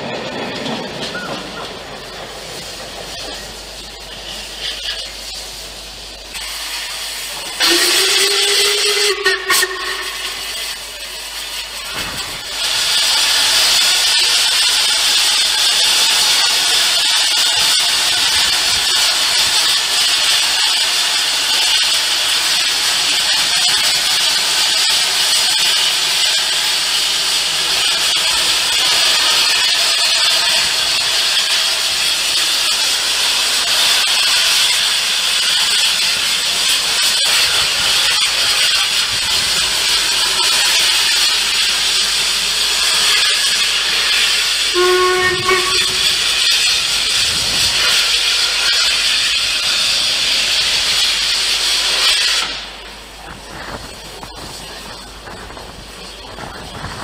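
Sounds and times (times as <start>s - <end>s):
steam locomotive hissing steam: 0.0s - 57.0s.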